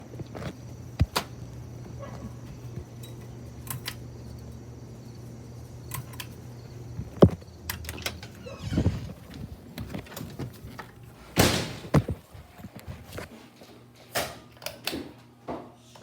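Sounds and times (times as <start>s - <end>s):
ceiling fan motor humming: 0.0s - 15.4s.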